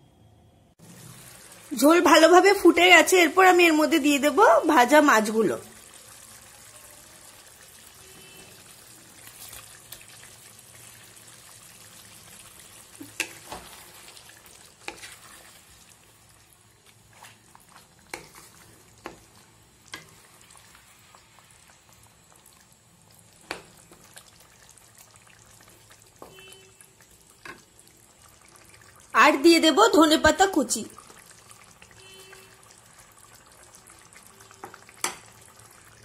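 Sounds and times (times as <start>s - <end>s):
curry simmering with bubbling hiss: 0.8s - 36.0s.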